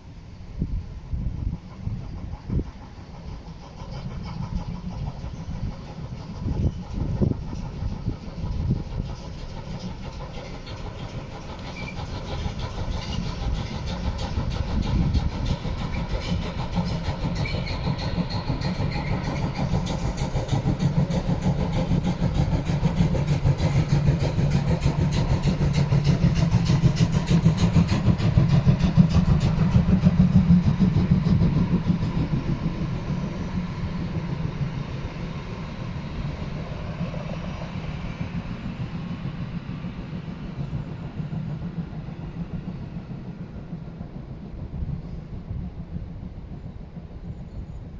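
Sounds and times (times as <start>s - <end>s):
steam locomotive exhaust beats: 0.0s - 47.9s
train wheels on rails: 0.0s - 47.9s.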